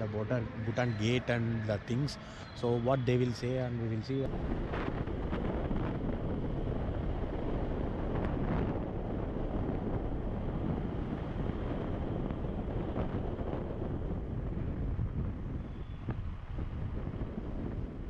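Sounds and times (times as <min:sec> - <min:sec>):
motorcycle road and engine noise: 0:00.0 - 0:18.0
wind rushing over microphone: 0:00.0 - 0:18.0.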